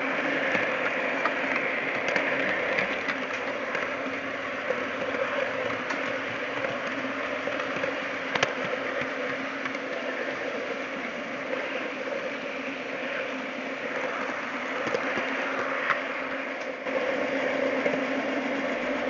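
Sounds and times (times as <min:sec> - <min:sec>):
model train motor hum: 0:00.0 - 0:19.0
wheels rattling on track: 0:00.0 - 0:19.0.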